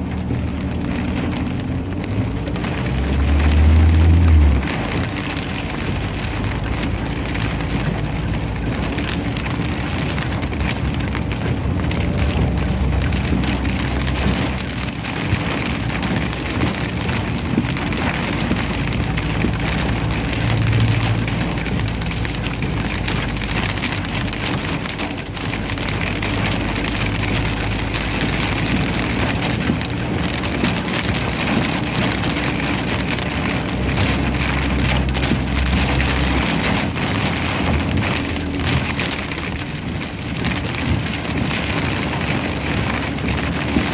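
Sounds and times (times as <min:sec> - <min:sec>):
hail and rain pelting: 0:00.0 - 0:43.9.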